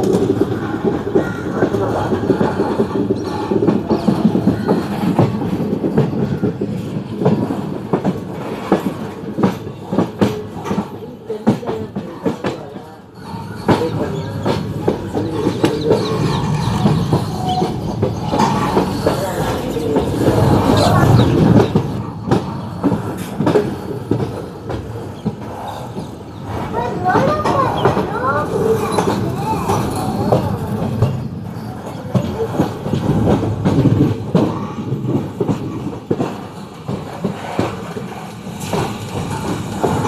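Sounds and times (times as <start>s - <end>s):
train rumble: 0.0s - 40.0s
wheels clicking over rail joints: 0.0s - 40.0s.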